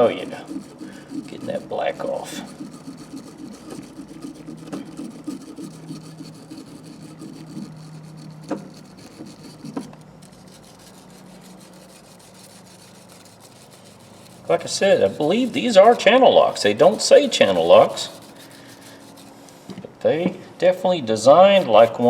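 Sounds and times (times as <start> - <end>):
wire brush scrubbing metal: 0.0 - 19.6, 21.2 - 22.0
faint steady hum: 0.0 - 22.0.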